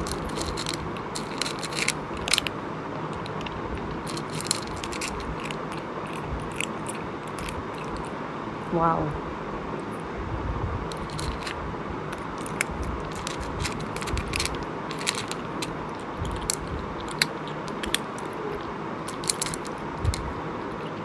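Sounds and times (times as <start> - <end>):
wet chewing and crunching: 0.0 - 8.2, 10.9 - 21.0.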